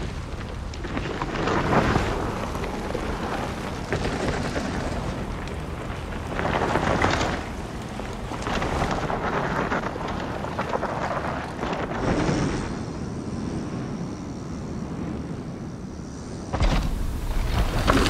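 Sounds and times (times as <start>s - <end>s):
bike tyres rolling on dirt: 0.0s - 18.0s.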